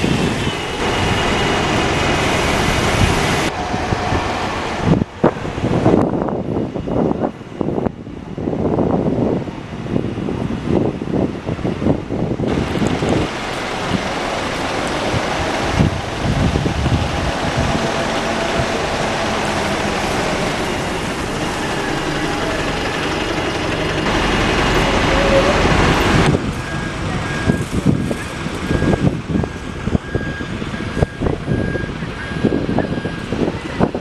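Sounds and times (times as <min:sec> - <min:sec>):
bus engine running: 0:00.0 - 0:34.0
electric bus high whine: 0:00.0 - 0:34.0
wind buffeting microphone: 0:00.0 - 0:34.0.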